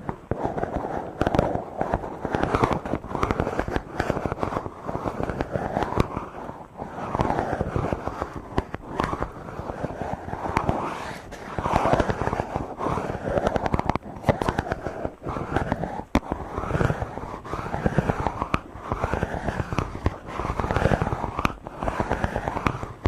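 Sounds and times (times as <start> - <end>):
fingers rubbing microphone: 0.0 - 23.0
sharp pops: 0.0 - 23.0.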